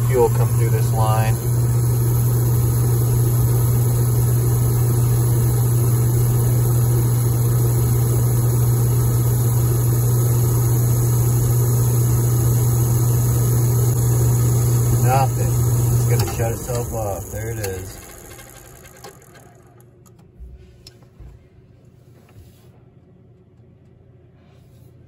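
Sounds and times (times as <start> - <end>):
burner motor humming: 0.0 - 20.2.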